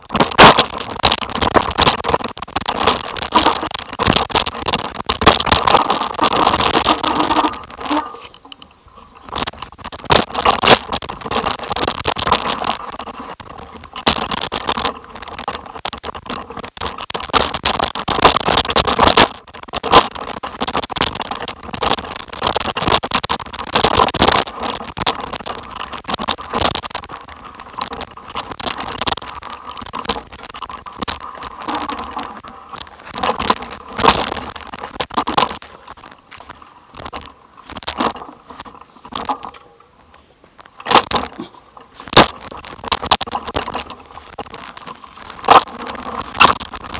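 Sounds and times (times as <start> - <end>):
bicycle tyres crunching on gravel: 0.0 - 46.9
bike knocks and rattles: 0.0 - 46.9.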